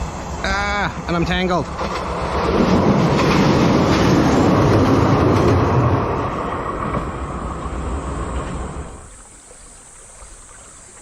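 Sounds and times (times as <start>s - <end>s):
train rumbling over bridge: 0.0s - 9.1s.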